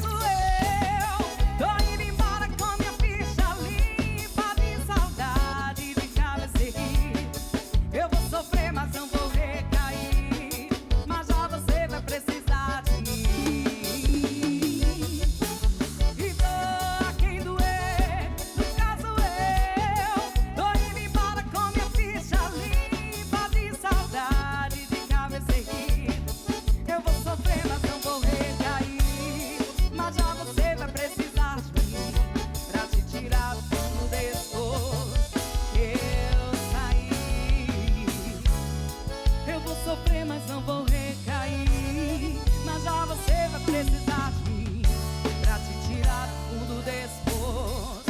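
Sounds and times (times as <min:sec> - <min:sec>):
drum kit beat: 0:00.0 - 0:48.0
live band playing: 0:00.0 - 0:48.0.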